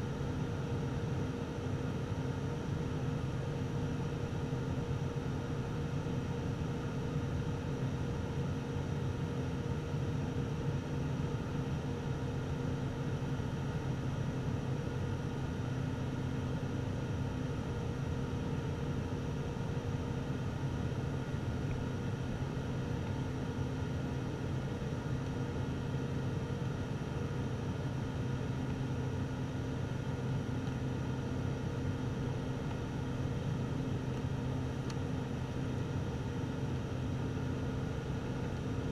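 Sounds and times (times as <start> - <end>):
propeller and engine drone: 0.0 - 38.9.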